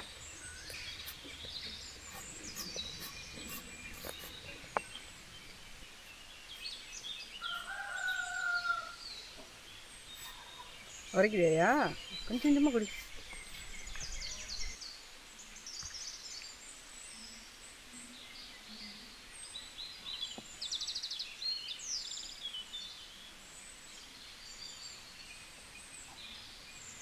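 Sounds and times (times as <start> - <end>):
faint outdoor background: 0.0 - 27.0
small birds chirping and trilling: 0.0 - 27.0.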